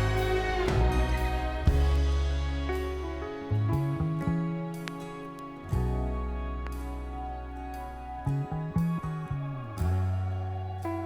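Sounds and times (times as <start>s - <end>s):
music from vinyl record: 0.0s - 11.0s.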